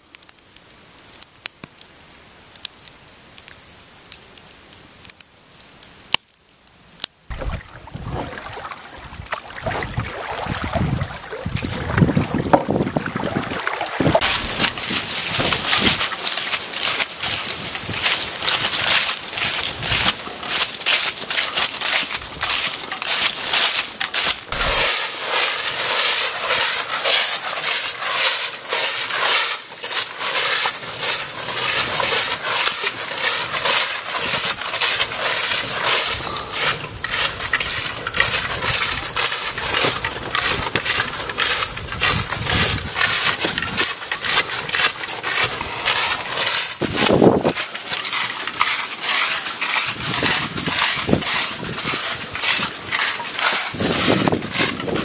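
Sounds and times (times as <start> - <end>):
footsteps crunching through dry leaves: 7.3 - 55.0.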